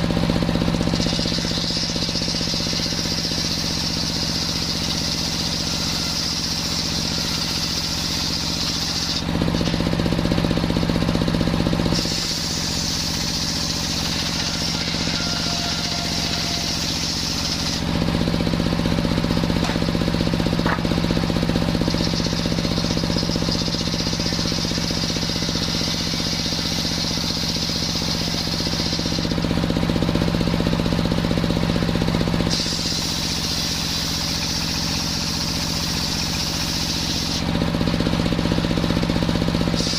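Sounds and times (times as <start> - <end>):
circular sawmill sawing timber: 0.0 - 39.9.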